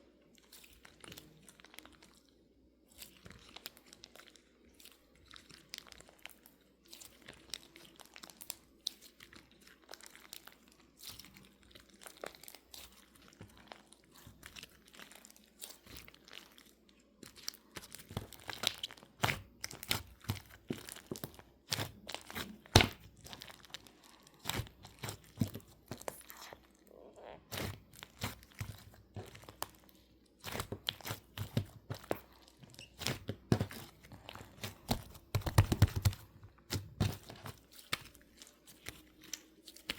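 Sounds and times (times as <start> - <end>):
slime crackling and popping: 2.9 - 39.9.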